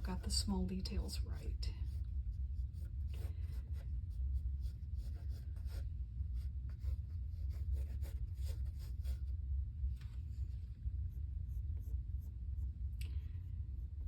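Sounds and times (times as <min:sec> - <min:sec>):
low hum: 0:00.0 - 0:14.0
pencil sketching on paper: 0:01.2 - 0:09.4, 0:10.9 - 0:14.0.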